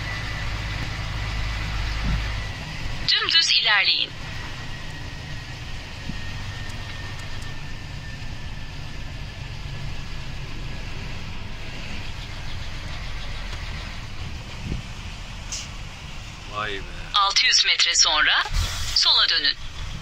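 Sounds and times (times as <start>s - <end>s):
road noise: 0.0s - 20.0s
truck diesel engine rumble: 0.0s - 20.0s.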